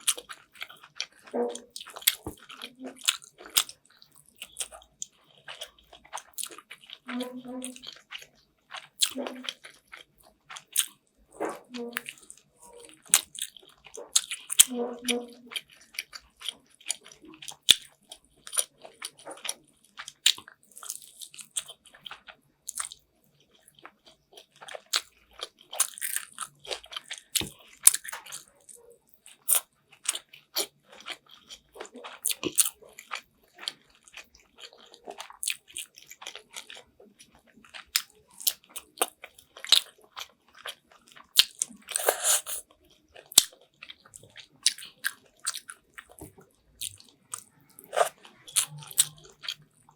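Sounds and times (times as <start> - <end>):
person chewing food: 0.0 - 49.9.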